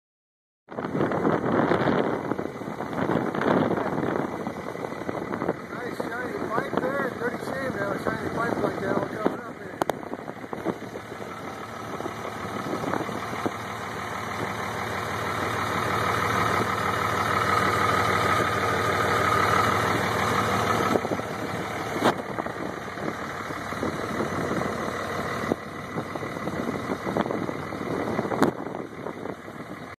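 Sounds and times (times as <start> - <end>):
diesel truck engine idling and revving: 0.7 - 30.0.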